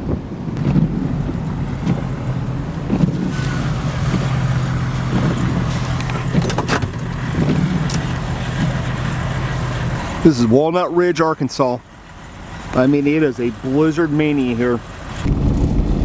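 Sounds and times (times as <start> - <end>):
motor vehicle humming: 0.2 - 16.0.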